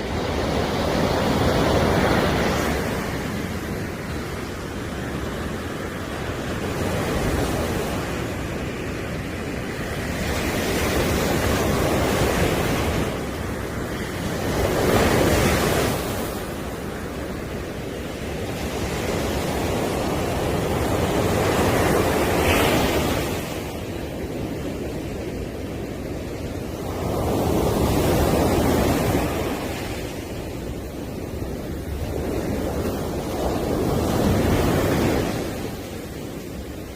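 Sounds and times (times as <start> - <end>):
sea waves breaking on beach: 0.0 - 36.9.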